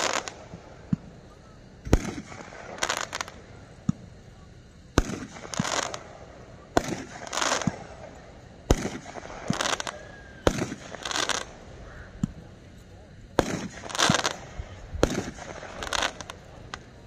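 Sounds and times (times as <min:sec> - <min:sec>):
firework shells launching: 0:00.0 - 0:01.1, 0:01.8 - 0:04.2, 0:04.9 - 0:12.4, 0:13.3 - 0:17.0
crackling hissing firework bursts: 0:00.0 - 0:17.0.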